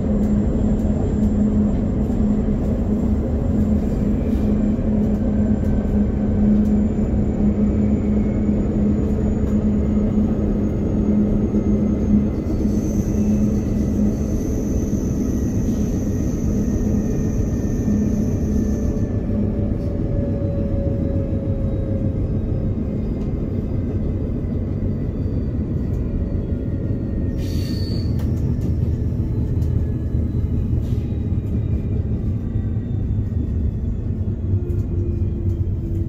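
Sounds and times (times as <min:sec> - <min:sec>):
train rumbling at speed: 0:00.0 - 0:36.0.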